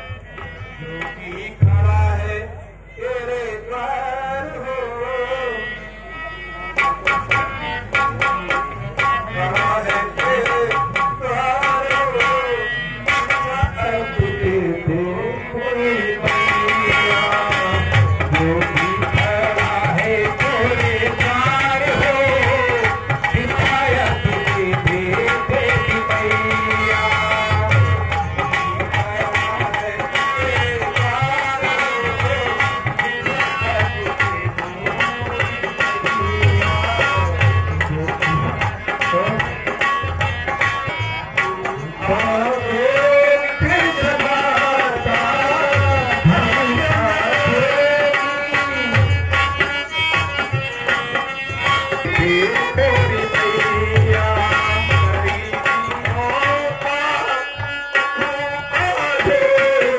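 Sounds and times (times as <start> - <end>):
tabla drumming: 0.0 - 59.9.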